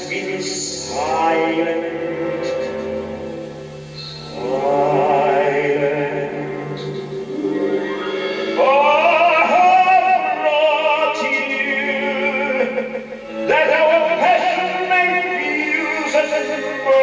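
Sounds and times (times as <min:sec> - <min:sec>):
soprano singing opera: 0:00.0 - 0:03.5, 0:04.2 - 0:17.0.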